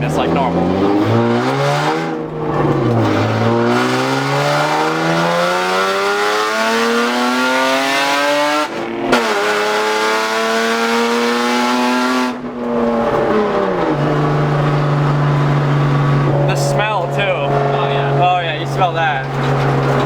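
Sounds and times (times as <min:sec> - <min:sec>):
loud raspy car exhaust accelerating: 0:00.0 - 0:20.0.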